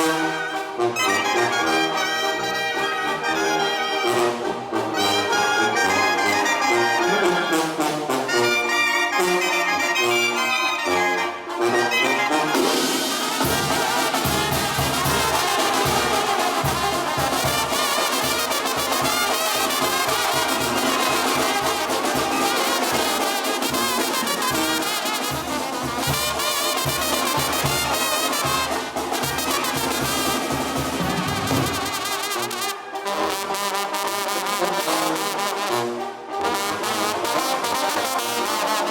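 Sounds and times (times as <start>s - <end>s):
brass band playing: 0.0s - 38.9s.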